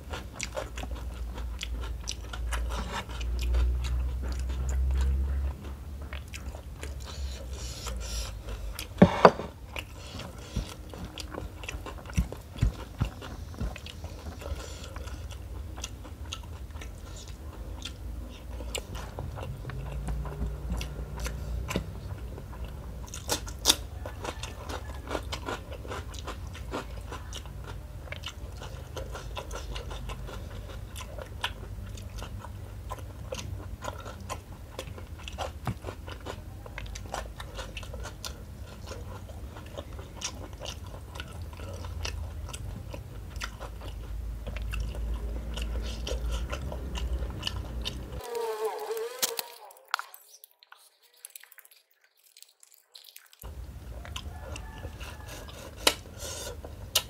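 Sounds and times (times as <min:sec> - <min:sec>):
person chewing with wet mouth sounds: 0:00.0 - 0:57.0.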